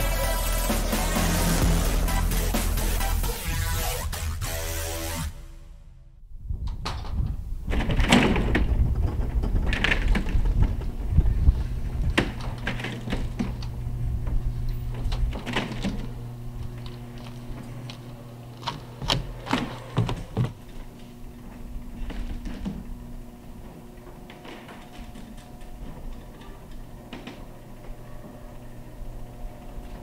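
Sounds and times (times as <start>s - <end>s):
garage door motor hum: 0.0s - 5.9s, 7.1s - 30.0s.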